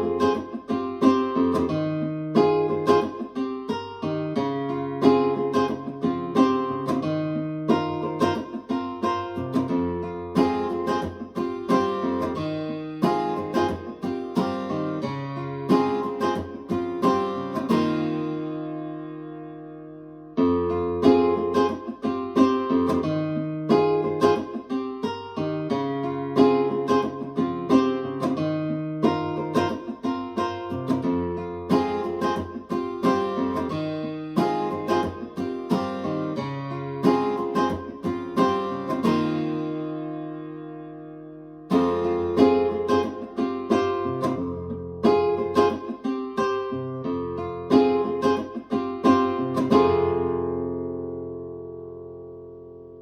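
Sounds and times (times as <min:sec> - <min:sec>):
acoustic guitar music over speaker: 0:00.0 - 0:53.0.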